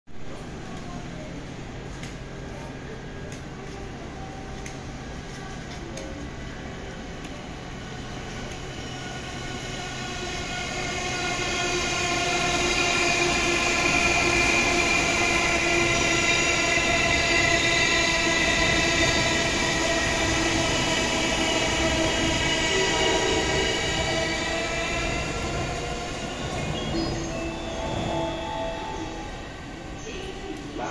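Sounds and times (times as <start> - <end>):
electric train whine: 0.3 - 30.9
train wheels rumbling: 3.3 - 30.9.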